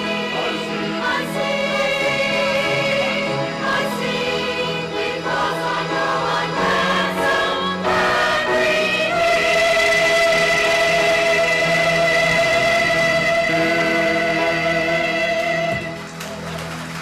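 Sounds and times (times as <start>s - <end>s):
church choir singing: 0.0s - 16.0s.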